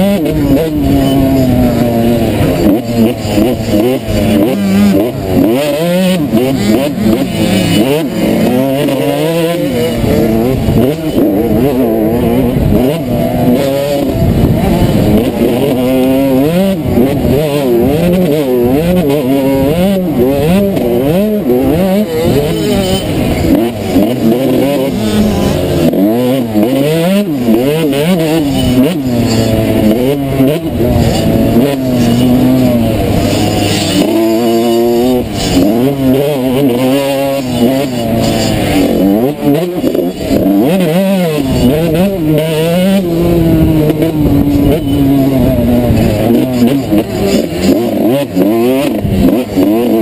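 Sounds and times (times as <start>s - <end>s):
two-stroke motocross engine revving: 0.0s - 50.0s.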